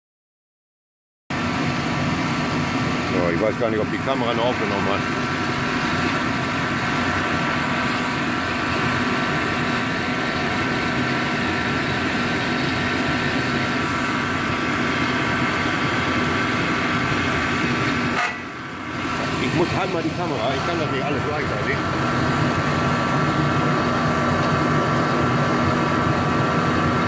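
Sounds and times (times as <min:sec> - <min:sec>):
heater fan and flame roaring: 0:01.3 - 0:27.0
constant hum: 0:01.4 - 0:27.0.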